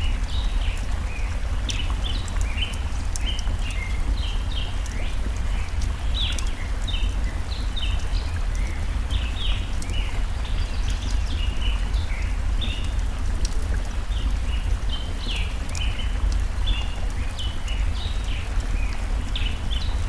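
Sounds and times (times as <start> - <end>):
small songbirds chirping: 0.0 - 20.0
stream water rushing: 0.0 - 20.0.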